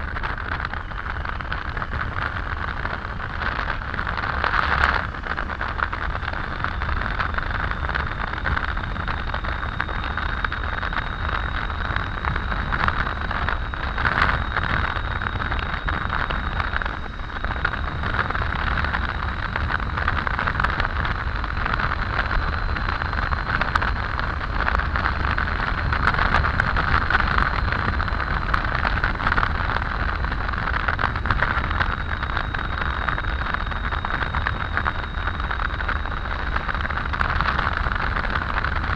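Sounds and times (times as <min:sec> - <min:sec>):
faint high whine: 0:00.0 - 0:38.9
motorcycle engine rumble: 0:00.0 - 0:38.9
wind and road noise: 0:00.0 - 0:38.9.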